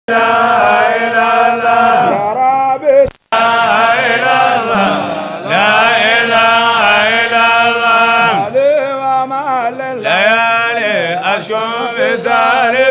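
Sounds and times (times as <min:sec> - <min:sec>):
man chanting: 0:02.0 - 0:12.9.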